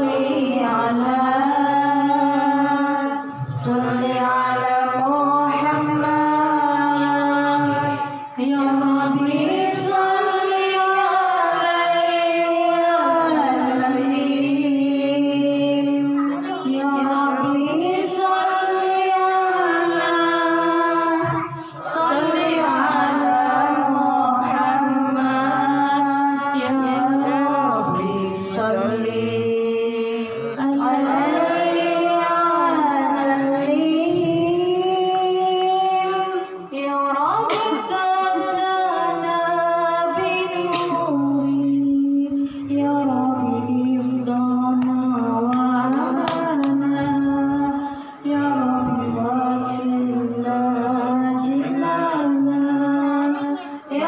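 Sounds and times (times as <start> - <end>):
woman singing devotional chant: 0.0 - 54.0.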